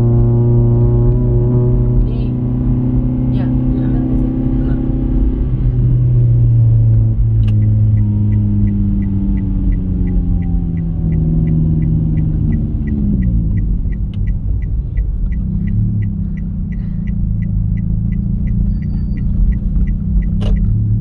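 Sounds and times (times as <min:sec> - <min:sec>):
car engine running: 0:00.0 - 0:21.0
turn signal ticking: 0:00.0 - 0:21.0.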